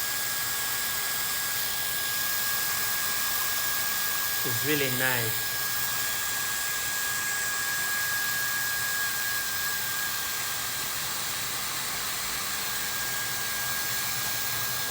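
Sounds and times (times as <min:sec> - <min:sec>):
hair dryer running: 0:00.0 - 0:14.9.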